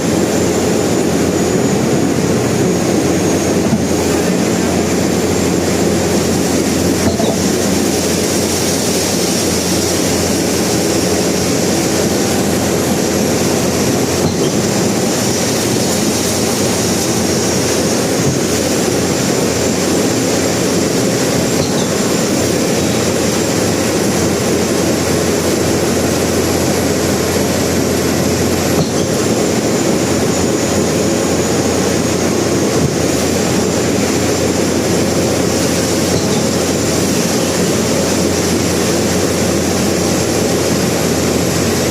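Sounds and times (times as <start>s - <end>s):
concrete pump running: 0.0s - 41.9s.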